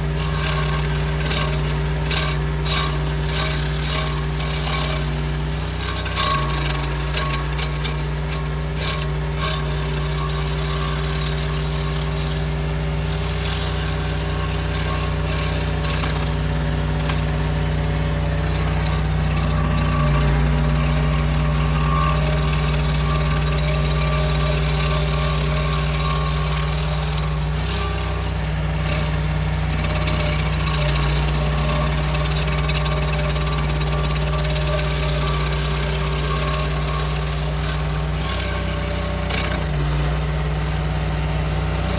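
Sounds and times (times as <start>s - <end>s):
skid steer engine running: 0.0s - 41.9s.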